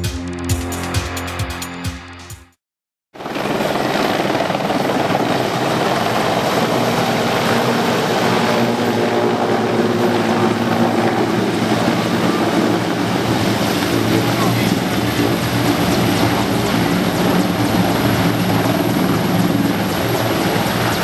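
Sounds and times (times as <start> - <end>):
helicopter flying low: 3.2 - 21.0.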